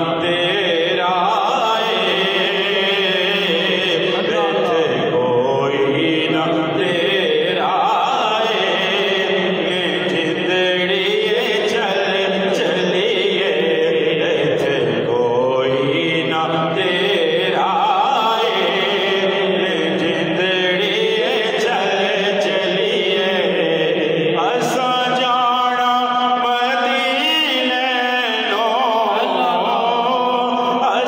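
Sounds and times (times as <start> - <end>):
men chanting: 0.0 - 31.0.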